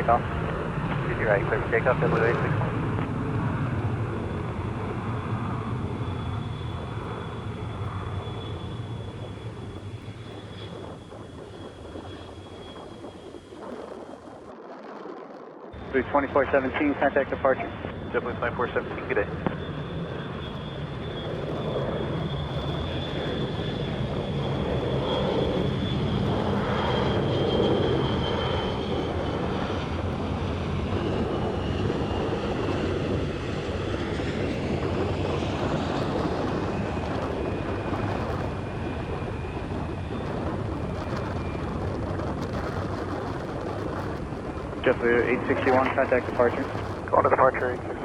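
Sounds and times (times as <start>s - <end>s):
jet engines roaring at takeoff: 0.0s - 48.0s.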